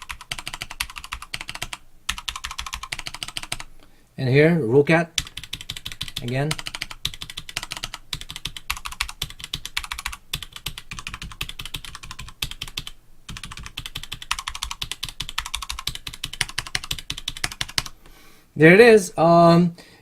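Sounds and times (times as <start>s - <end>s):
fast keyboard typing: 0.0s - 3.7s, 5.2s - 18.0s.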